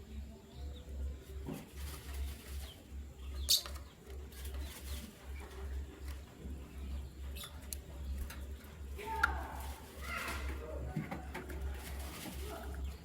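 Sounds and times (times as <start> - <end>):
canaries chirping: 0.0 - 13.0
steady pulsing low hum: 0.0 - 13.0.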